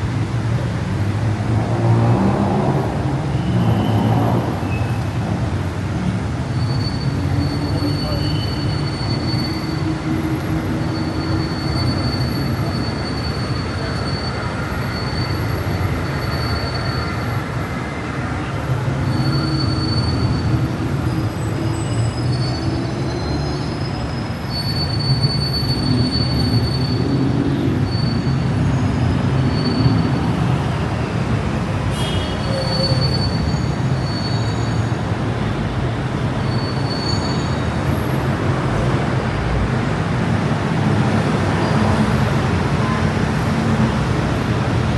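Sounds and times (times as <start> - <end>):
street traffic noise: 0.0 - 44.9
wheels squealing: 1.3 - 17.9, 18.5 - 44.9.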